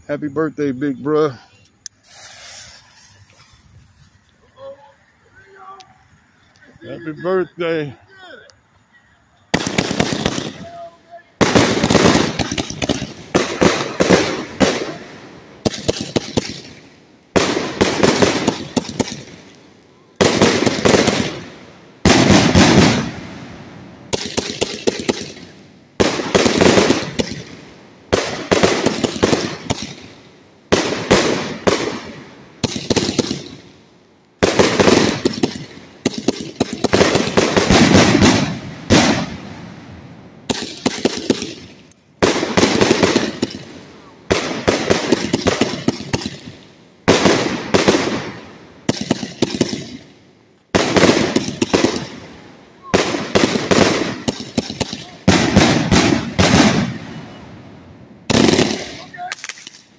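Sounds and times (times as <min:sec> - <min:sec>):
firework bangs: 0:02.0 - 0:04.0, 0:09.5 - 0:19.6, 0:20.2 - 0:33.8, 0:34.4 - 0:59.8.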